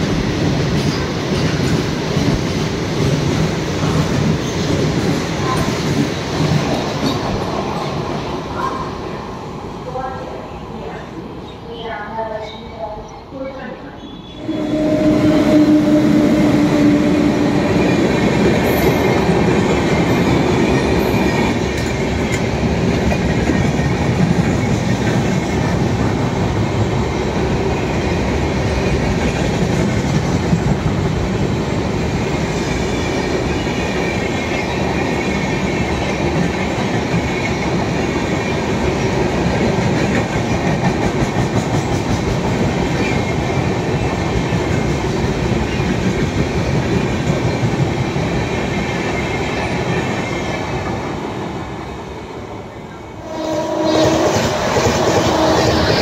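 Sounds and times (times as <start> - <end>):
train wheels rushing on rails: 0.0 - 9.8, 14.3 - 56.0.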